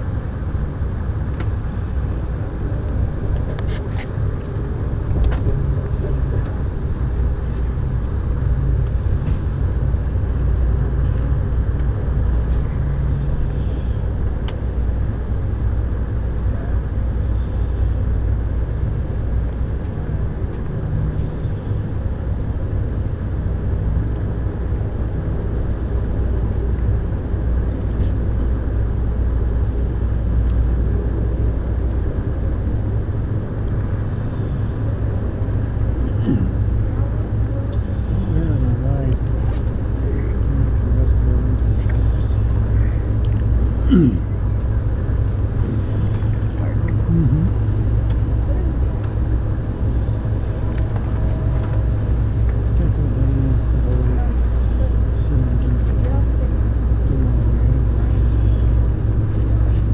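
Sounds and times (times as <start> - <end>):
train car rumble: 0.0 - 59.9.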